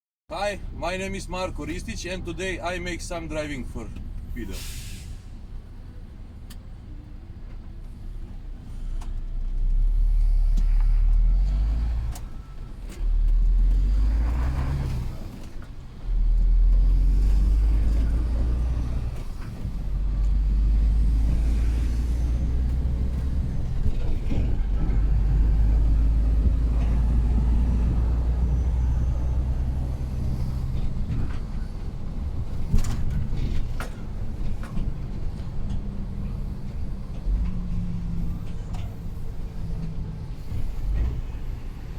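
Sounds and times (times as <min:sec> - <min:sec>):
heavy truck engine rumble: 0:00.3 - 0:41.9.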